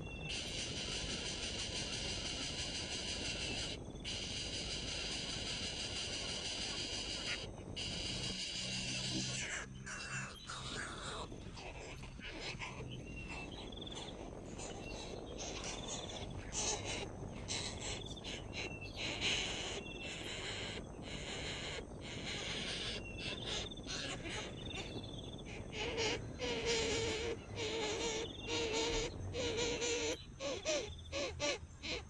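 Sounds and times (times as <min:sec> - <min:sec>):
high bird chirps: 0:00.0 - 0:31.2
insects buzzing: 0:00.0 - 0:32.0.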